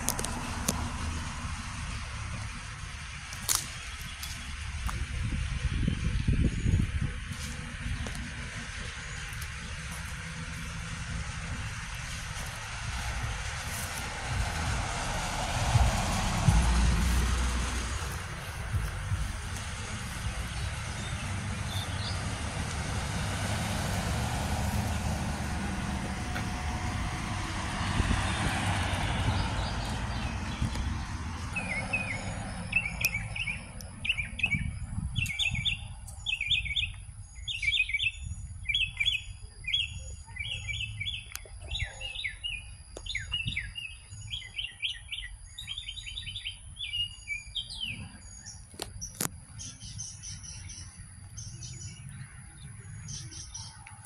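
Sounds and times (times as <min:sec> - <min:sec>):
songbird chirping: 0:00.0 - 0:54.0
vehicle rumbling past: 0:00.0 - 0:54.0.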